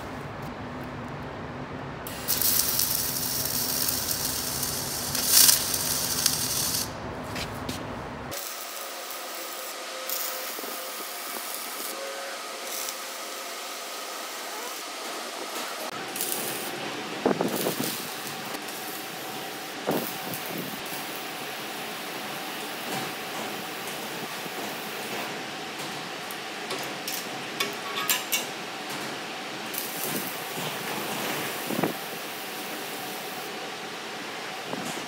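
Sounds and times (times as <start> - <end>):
welding arc crackling: 2.1 - 7.0, 8.3 - 27.7, 29.7 - 33.5.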